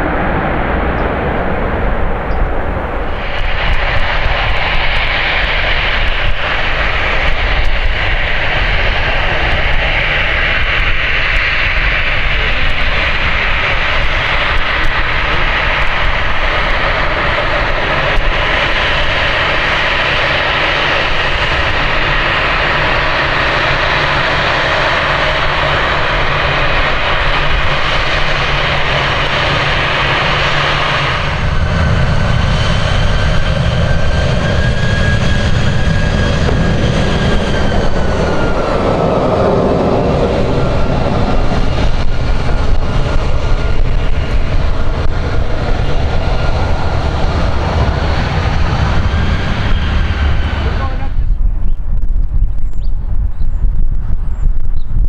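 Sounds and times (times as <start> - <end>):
jet engines hissing and whining: 0.0 - 51.6
deep jet engine rumble: 0.0 - 55.0.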